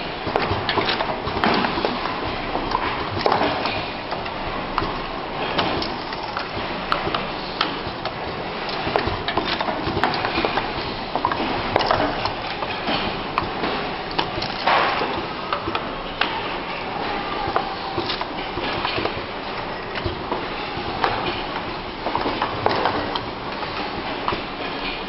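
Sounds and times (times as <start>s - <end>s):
machine clicks and clacks: 0.0s - 25.0s
steady noisy background: 0.0s - 25.0s.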